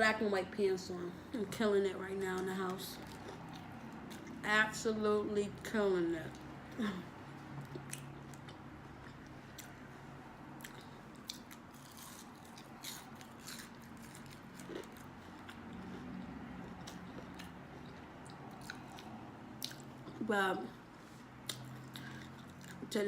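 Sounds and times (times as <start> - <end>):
chewing with crunches: 2.2 - 4.5, 5.6 - 20.3, 21.0 - 23.0.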